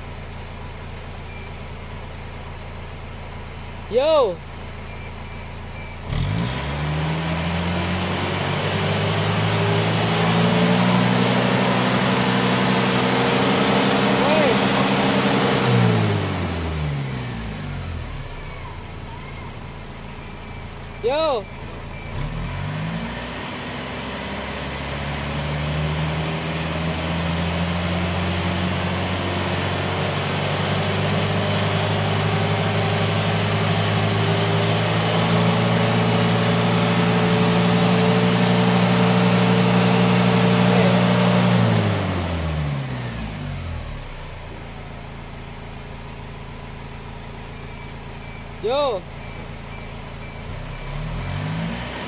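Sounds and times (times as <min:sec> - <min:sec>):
diesel engine revving: 0:03.8 - 0:52.0.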